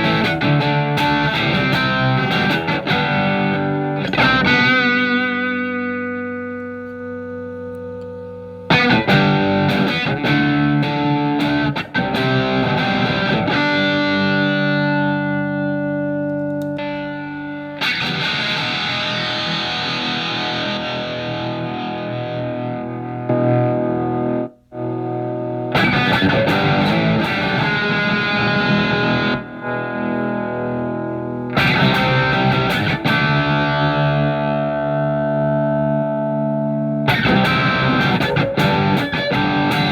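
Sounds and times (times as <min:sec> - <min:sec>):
overdriven electric guitar chords: 0:00.0 - 0:39.9.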